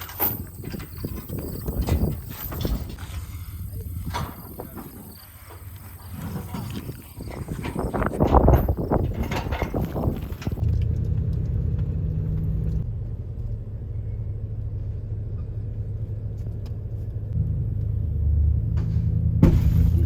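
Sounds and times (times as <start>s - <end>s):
car engine hum: 0.0s - 20.0s
road noise: 0.0s - 20.0s.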